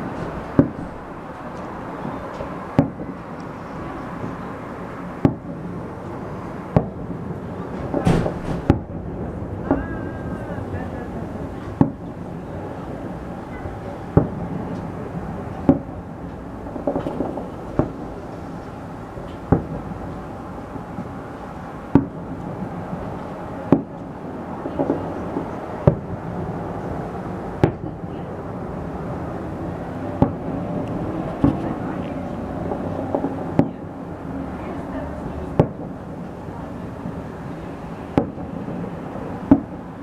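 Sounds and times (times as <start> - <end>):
firework bangs echoing: 0.0 - 40.0
steady background noise: 0.0 - 40.0.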